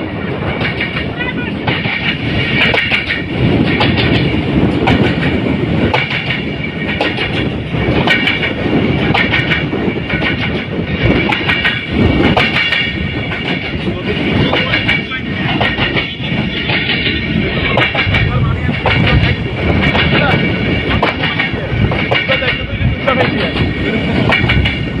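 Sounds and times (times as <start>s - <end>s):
train running noise: 0.0s - 25.0s
train wheels clattering on rail joints: 0.0s - 25.0s.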